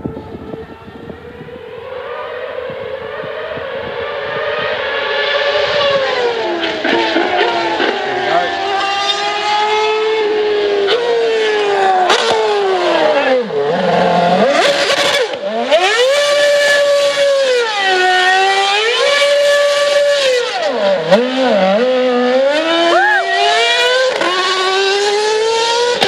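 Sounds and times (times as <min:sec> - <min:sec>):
race car engine revving hard: 0:00.4 - 0:26.0.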